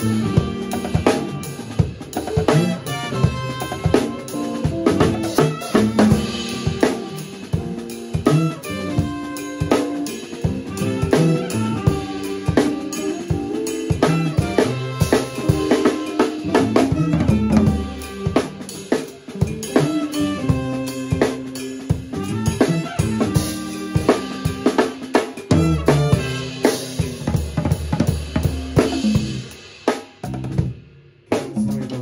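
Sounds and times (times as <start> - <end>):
drum kit hits: 0.0 - 30.8
funk band playing: 0.0 - 32.0.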